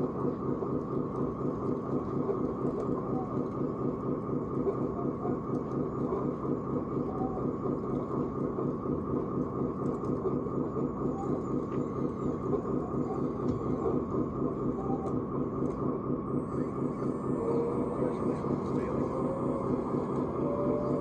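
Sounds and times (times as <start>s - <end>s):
pulsing mechanical rumble: 0.0s - 21.0s.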